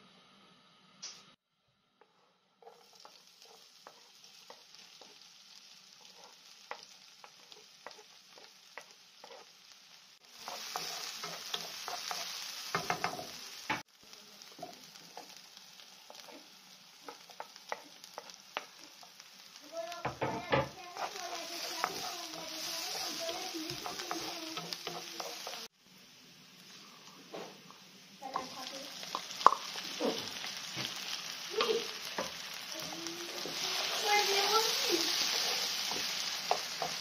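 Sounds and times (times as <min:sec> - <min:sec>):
onion sizzling in oil: 0:00.0 - 0:37.0.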